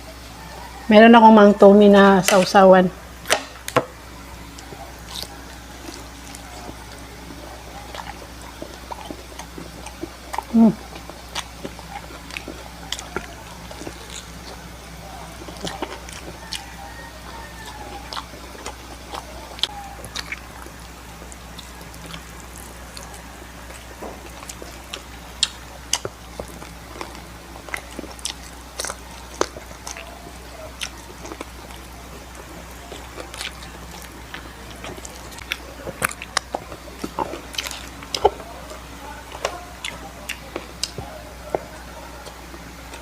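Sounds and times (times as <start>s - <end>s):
chewing crispy fried chicken: 0.0s - 43.0s
low steady hum: 0.0s - 43.0s.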